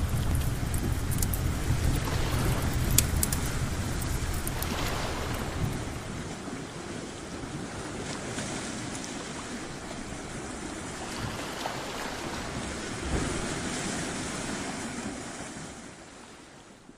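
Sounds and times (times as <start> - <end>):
sea waves washing: 0.0 - 16.9.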